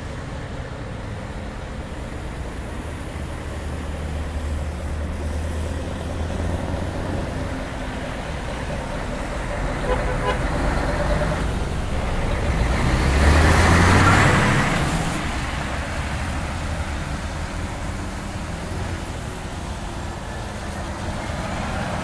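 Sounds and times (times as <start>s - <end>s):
diesel truck engine rumble: 0.0s - 22.0s
tyre noise on wet road: 0.0s - 22.0s.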